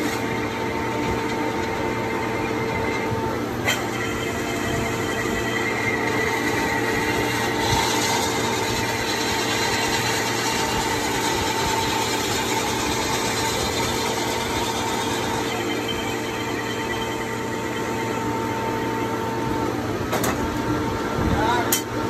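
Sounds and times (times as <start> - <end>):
roof bolter drill drone: 0.0 - 21.5.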